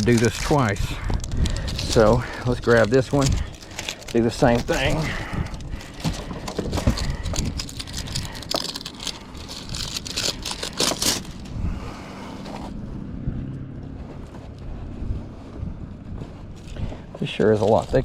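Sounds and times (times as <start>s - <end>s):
roofing material crinkling: 0.0s - 11.5s, 14.0s - 18.0s.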